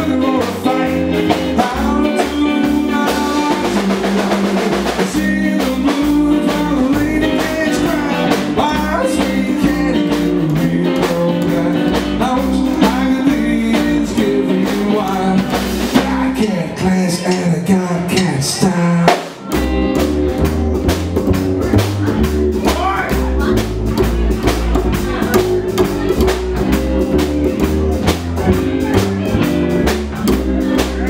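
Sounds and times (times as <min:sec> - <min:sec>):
drum kit: 0:00.0 - 0:31.0
electric guitar: 0:00.0 - 0:31.0
person singing: 0:00.0 - 0:31.0
upright double bass: 0:00.0 - 0:31.0.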